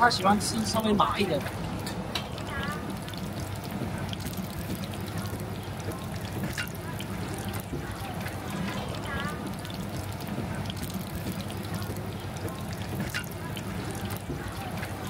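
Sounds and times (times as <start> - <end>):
pies sizzling in hot oil: 0.0 - 15.0.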